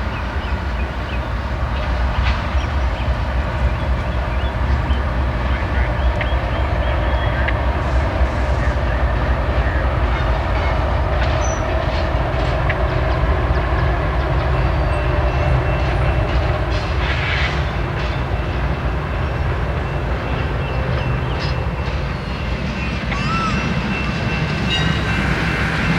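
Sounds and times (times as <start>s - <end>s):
train wheels rumbling on rails: 0.0s - 25.9s.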